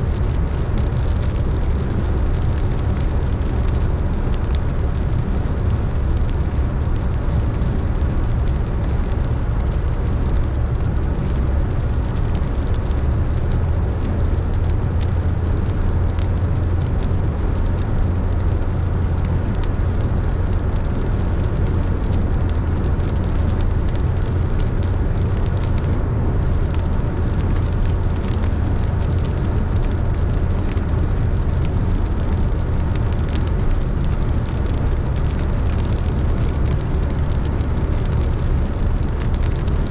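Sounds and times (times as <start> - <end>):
raindrop ticks: 0.0 - 39.9
road rumble and tyre noise: 0.0 - 39.9.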